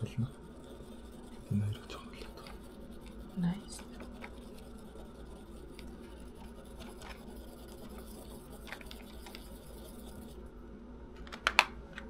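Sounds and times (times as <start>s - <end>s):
brush ticking against plastic: 0.0s - 10.4s
paintbrush scratchy brushing: 0.0s - 10.5s.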